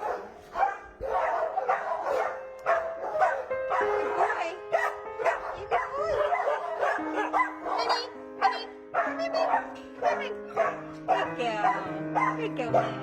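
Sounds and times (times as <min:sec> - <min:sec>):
background music: 0:00.0 - 0:13.0
dog barking: 0:00.0 - 0:13.0.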